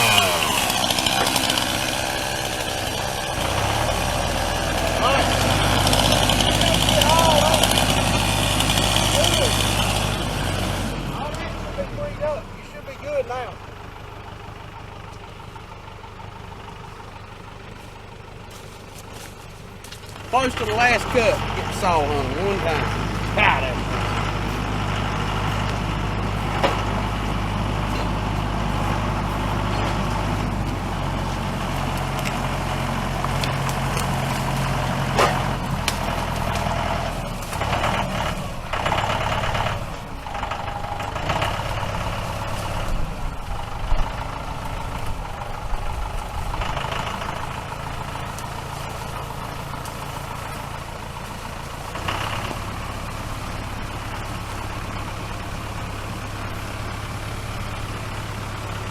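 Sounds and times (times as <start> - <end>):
heavy engine running: 0.0 - 58.9.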